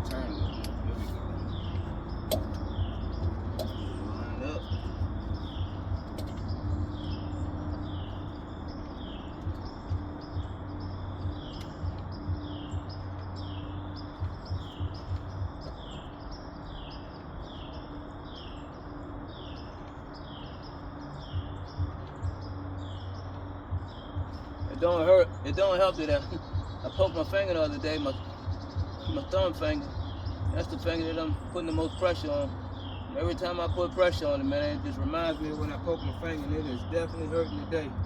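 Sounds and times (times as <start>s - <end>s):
bird chirping: 0.0s - 38.0s
low bumps: 0.0s - 38.0s
low hum: 0.0s - 38.0s.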